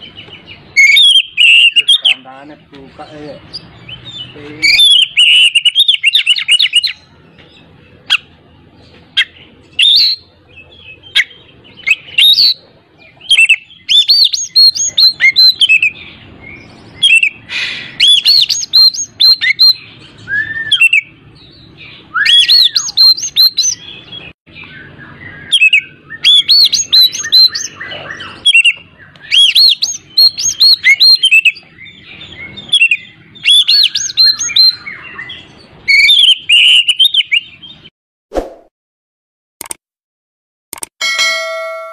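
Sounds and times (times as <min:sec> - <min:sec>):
songbird chirping and whistling: 0:00.0 - 0:02.3, 0:03.2 - 0:37.9.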